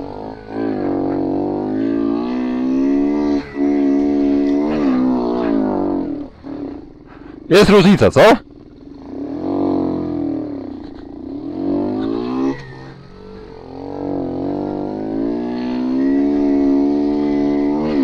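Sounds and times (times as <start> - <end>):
small engine revving: 0.0 - 18.0.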